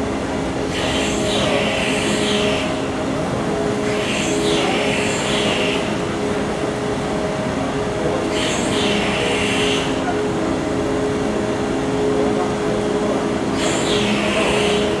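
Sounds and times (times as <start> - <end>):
ship diesel machinery hum: 0.0 - 15.0.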